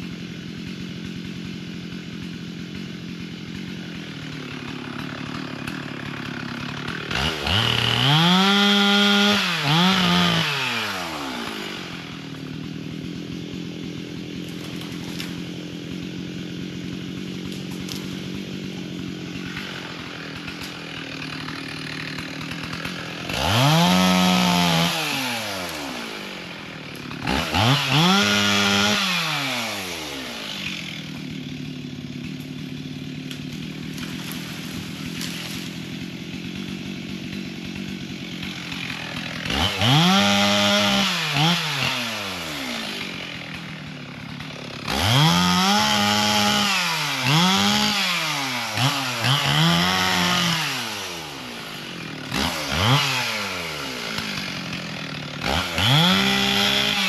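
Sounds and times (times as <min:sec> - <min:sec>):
chainsaw idling: 0:00.0 - 0:57.0
chainsaw revving full throttle: 0:00.0 - 0:57.0.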